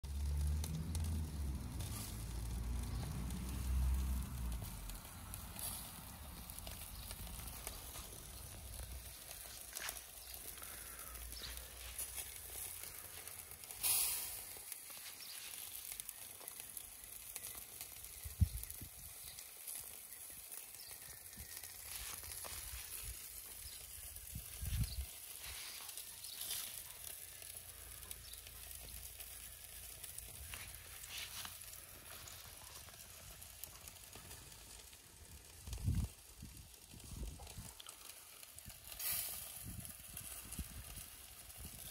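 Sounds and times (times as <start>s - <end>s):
meat sizzling on a grill: 0.0s - 41.9s.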